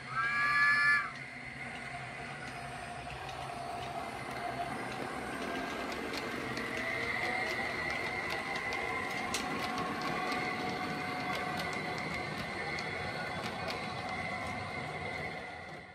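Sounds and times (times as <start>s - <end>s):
model train whine: 0.0s - 15.9s.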